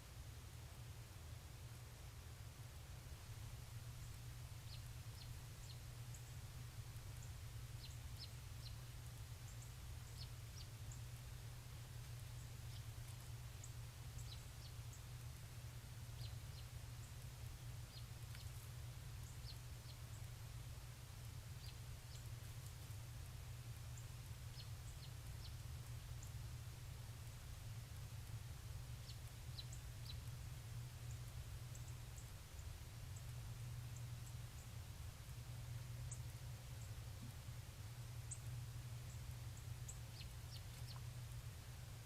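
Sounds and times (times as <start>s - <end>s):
steady low hum: 0.0s - 42.0s
small birds chirping: 3.2s - 42.0s.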